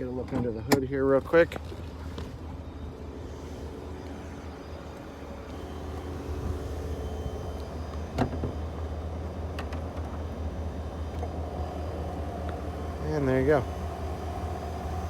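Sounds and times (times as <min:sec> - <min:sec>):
car engine idling: 0:02.8 - 0:15.0.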